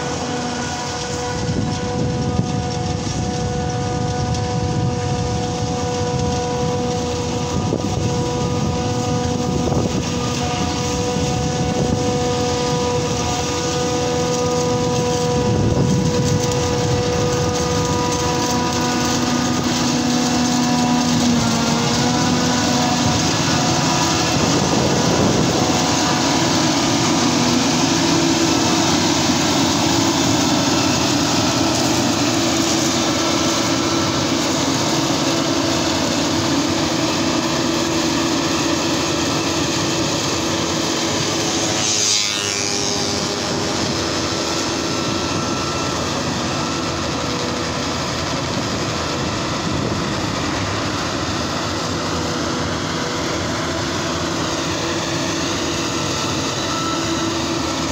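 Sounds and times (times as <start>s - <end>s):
forage harvester mechanical drone: 0.0s - 57.9s
tractor engine: 0.0s - 57.9s.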